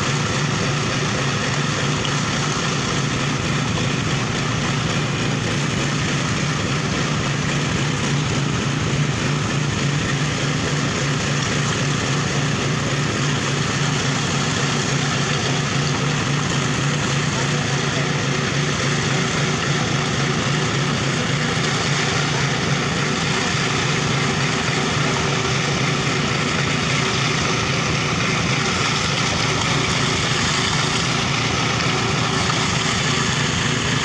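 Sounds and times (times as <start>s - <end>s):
power trowel engine humming: 0.0s - 34.0s.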